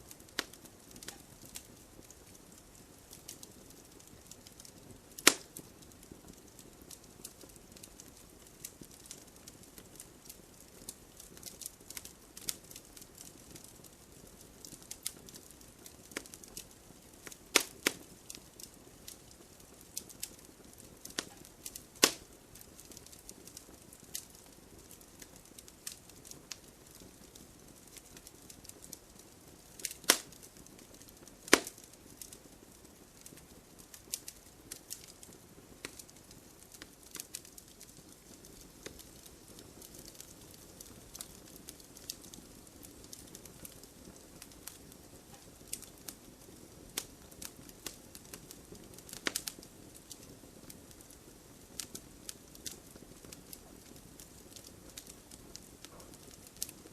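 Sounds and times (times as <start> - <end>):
wood fire crackling: 0.0 - 56.9
loud fire pops: 0.1 - 13.9, 14.5 - 51.1, 51.8 - 56.9.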